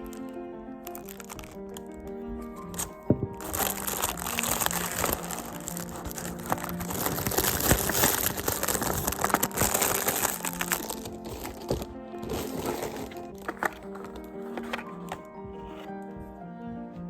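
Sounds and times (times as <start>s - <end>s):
packaging crinkling and rustling: 0.0s - 15.9s
background music: 0.0s - 17.0s.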